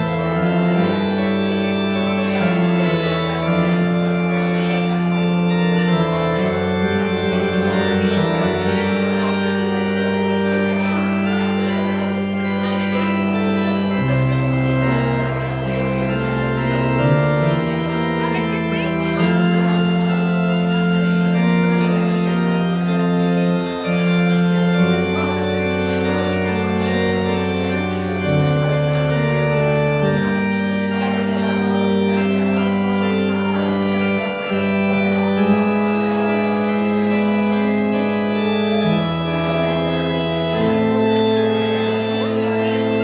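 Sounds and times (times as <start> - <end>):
organ playing slow chords: 0.0 - 43.0.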